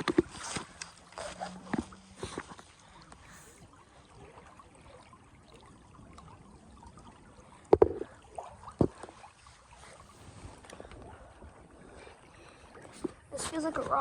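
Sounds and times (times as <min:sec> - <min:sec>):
faint running river water: 0:00.0 - 0:14.0.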